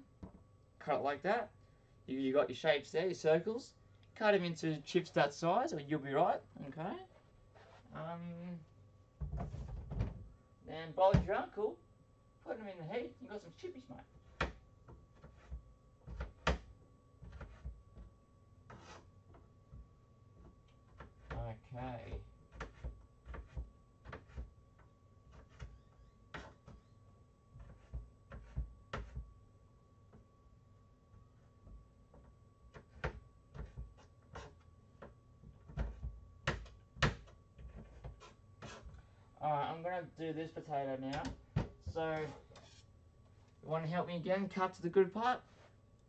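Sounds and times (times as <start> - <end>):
faint high tone hum: 0.0 - 46.0.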